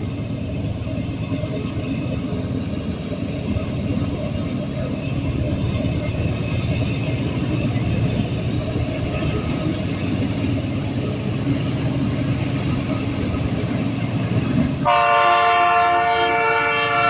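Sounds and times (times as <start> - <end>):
diesel freight train rumbling: 0.0 - 17.0.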